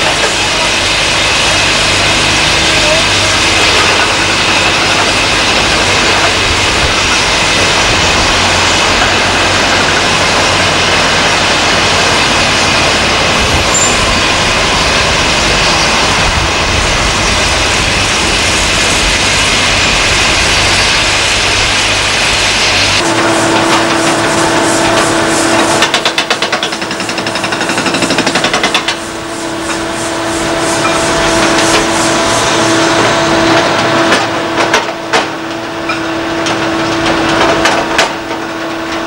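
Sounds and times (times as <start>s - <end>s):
heavy diesel engines droning: 0.0s - 39.0s.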